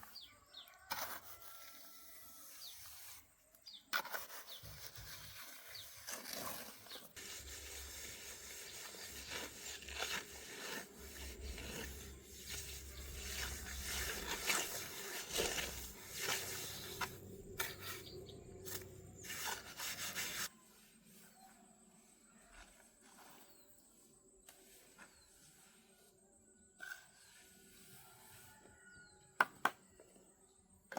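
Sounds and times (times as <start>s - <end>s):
rough scraping and rubbing: 0.0s - 3.3s, 3.9s - 29.1s.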